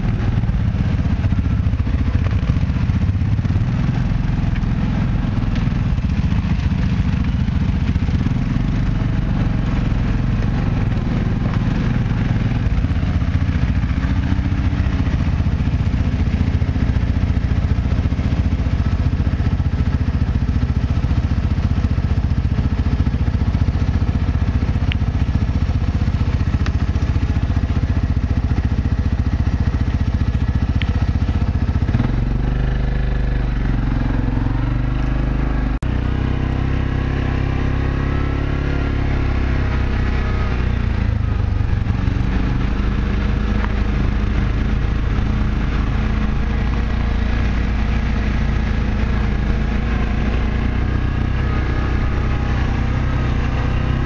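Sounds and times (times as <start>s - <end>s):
quad bike engine droning: 0.0s - 54.0s.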